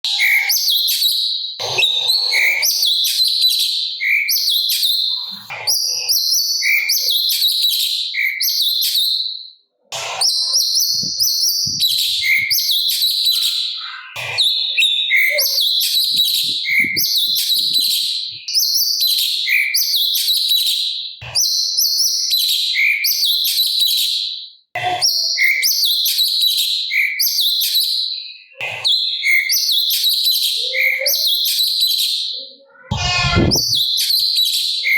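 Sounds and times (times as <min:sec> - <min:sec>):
bird singing chirps and whistles: 0:00.1 - 0:24.2, 0:25.0 - 0:34.9.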